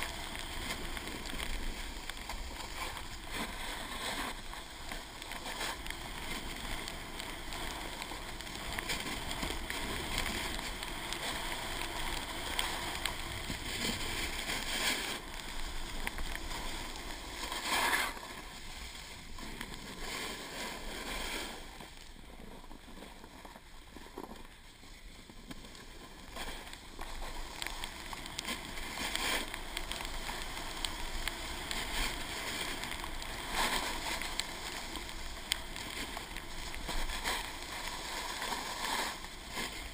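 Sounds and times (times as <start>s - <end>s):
snowboard edges scraping snow: 0.0s - 23.4s, 24.0s - 39.9s.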